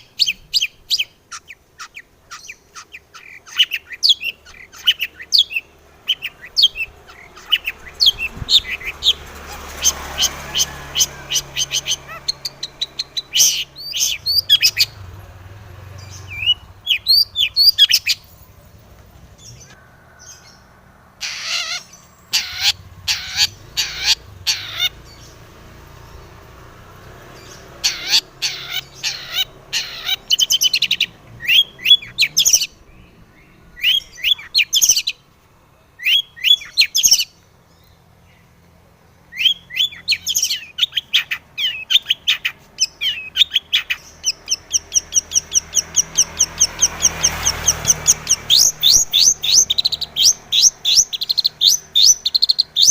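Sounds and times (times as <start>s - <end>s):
bird singing harsh chirps: 0.0s - 35.3s, 36.0s - 38.6s, 39.2s - 52.9s.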